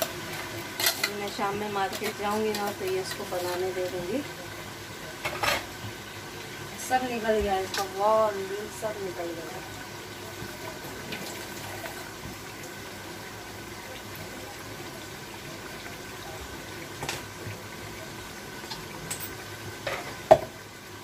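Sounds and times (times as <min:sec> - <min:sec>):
faint sizzle from pot: 0:00.0 - 0:21.0.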